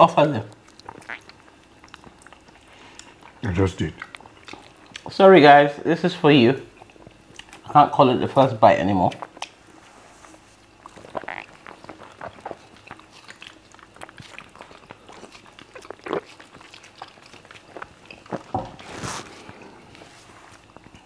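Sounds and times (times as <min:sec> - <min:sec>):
wet chewing and lip smacks: 0:00.5 - 0:05.2, 0:06.7 - 0:07.7, 0:09.0 - 0:21.0.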